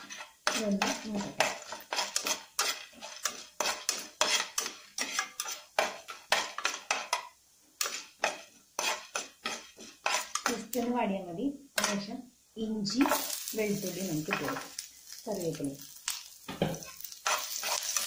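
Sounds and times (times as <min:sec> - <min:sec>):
metal spatula scraping frying pan: 0:00.0 - 0:10.8, 0:13.0 - 0:15.2, 0:15.8 - 0:18.0.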